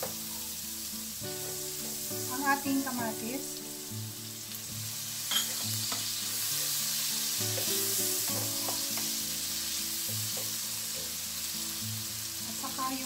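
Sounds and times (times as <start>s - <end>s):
vegetables sizzling in butter: 0.0s - 13.0s.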